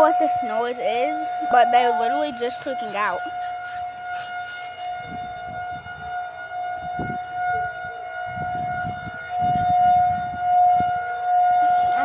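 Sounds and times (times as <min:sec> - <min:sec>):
steady high-pitched siren-like tone: 0:00.0 - 0:12.0.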